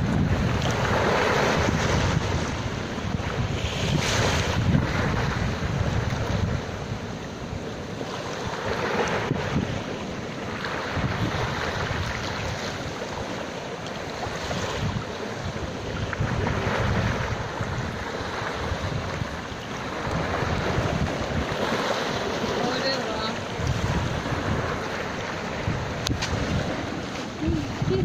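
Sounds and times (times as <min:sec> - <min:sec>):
sea surf washing ashore: 0:00.0 - 0:28.0
wind buffeting microphone: 0:00.0 - 0:28.0.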